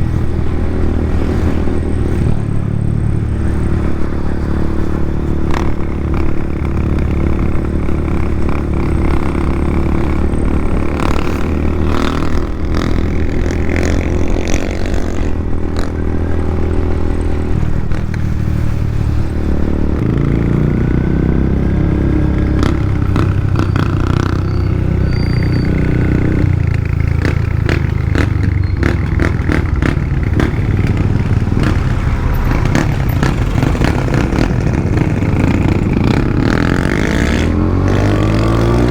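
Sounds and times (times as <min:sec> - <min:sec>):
motorcycle engine through open exhaust: 0:00.0 - 0:38.9.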